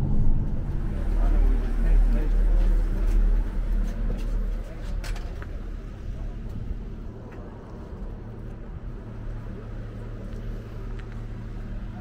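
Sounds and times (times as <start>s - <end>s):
bus engine humming: 0.0s - 12.0s.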